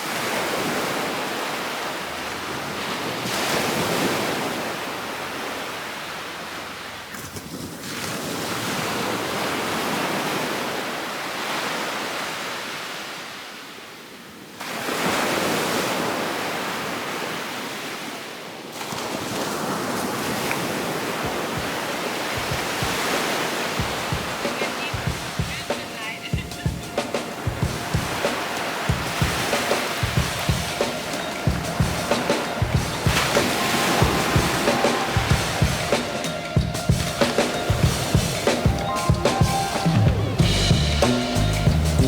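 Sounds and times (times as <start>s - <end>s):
surf breaking on beach: 0.0s - 13.6s, 14.6s - 41.5s.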